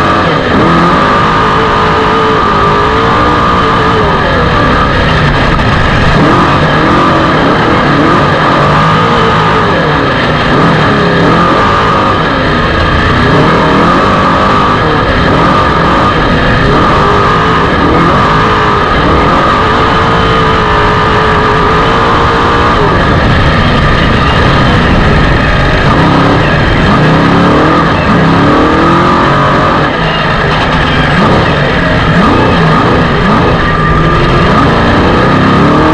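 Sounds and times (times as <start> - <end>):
race vehicle engine revving: 0.0 - 35.9.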